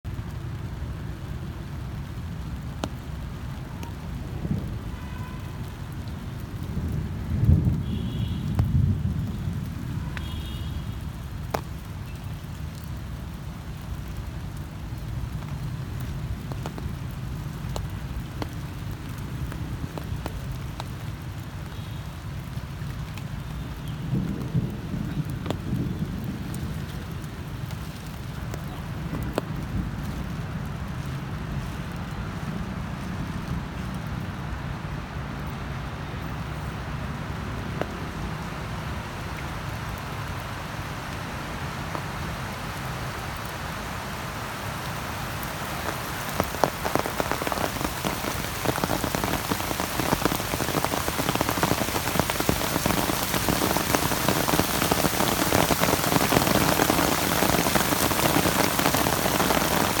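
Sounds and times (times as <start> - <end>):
rain falling: 0.0 - 60.0.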